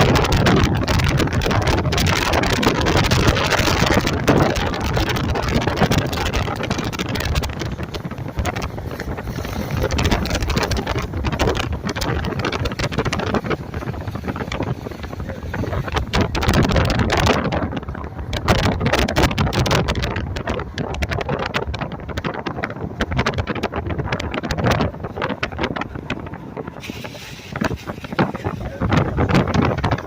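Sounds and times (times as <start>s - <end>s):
car road noise: 0.0s - 30.0s
wind buffeting microphone: 0.0s - 30.0s.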